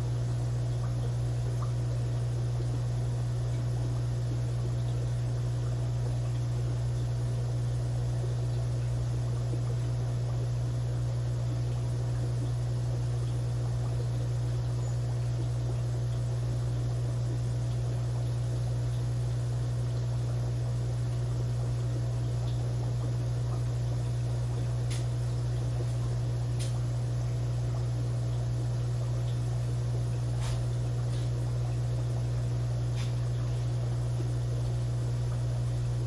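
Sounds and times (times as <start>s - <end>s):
aquarium equipment humming: 0.0s - 36.0s.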